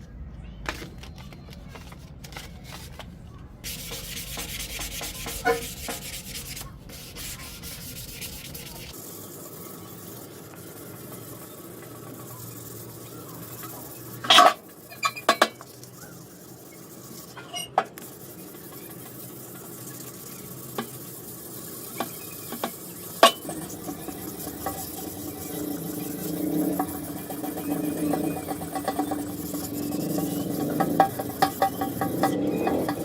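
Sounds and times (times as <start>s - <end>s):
sanding strokes: 3.6s - 33.0s.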